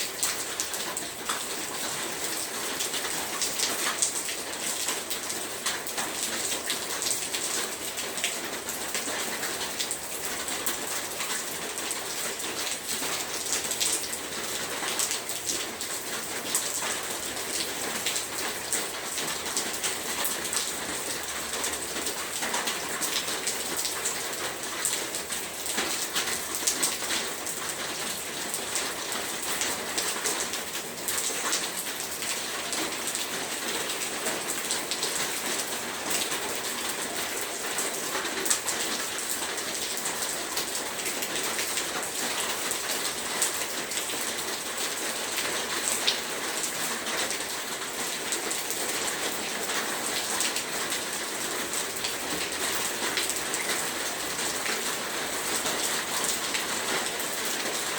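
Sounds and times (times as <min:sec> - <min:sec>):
heavy rain pattering: 0:00.0 - 0:57.9.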